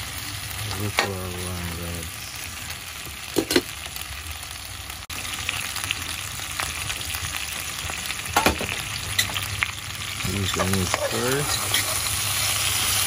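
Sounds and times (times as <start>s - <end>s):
chicken feet sizzling in pot: 0.0s - 13.0s.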